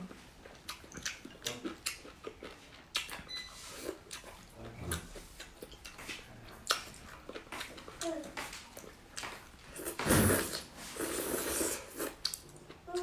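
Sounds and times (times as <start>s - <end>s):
person chewing wetly: 0.1s - 13.0s.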